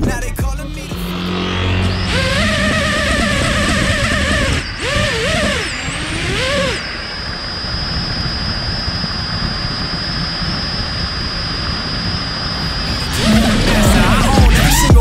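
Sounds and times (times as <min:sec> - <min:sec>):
low rushing noise: 0:00.0 - 0:15.0
quadcopter propellers whining: 0:00.5 - 0:15.0.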